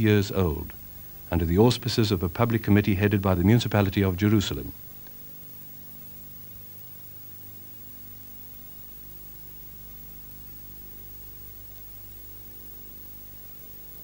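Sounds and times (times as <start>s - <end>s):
low even hum: 0.0s - 14.0s
steady tape hiss: 0.0s - 14.0s.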